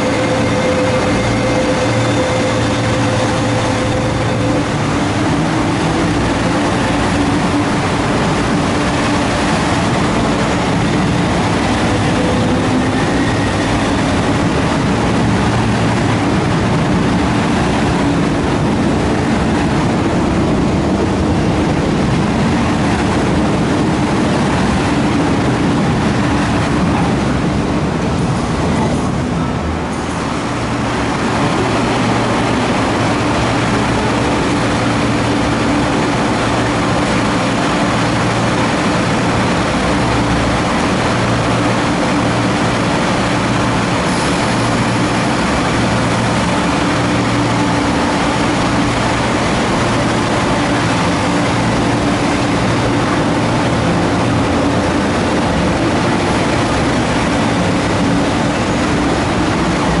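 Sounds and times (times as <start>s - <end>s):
train equipment humming: 0.0s - 60.0s
train pulling away: 0.0s - 60.0s.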